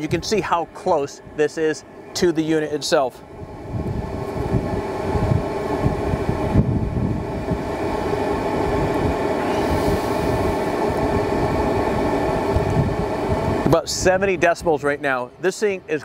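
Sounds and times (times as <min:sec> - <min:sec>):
air heater running: 0:00.0 - 0:16.0.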